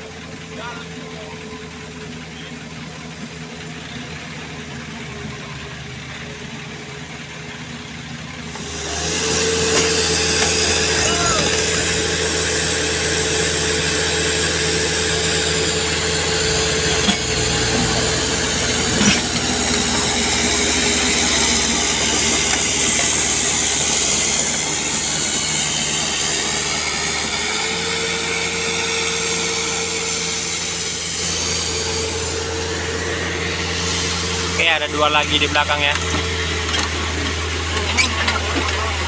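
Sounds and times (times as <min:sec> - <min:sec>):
diesel engines under load: 0:00.0 - 0:39.0.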